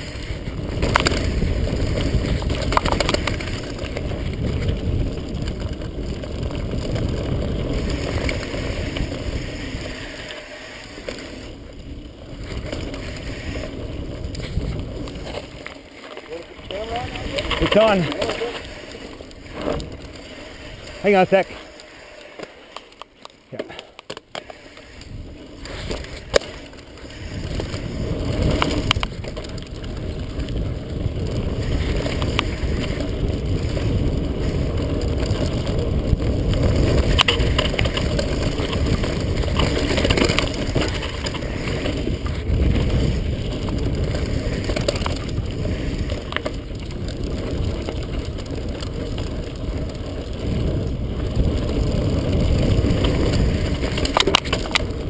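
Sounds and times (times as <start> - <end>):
wind on microphone: 0.0 - 15.7, 24.4 - 55.0
bike clicks and knocks: 0.0 - 55.0
tyres rolling over dirt: 0.0 - 55.0.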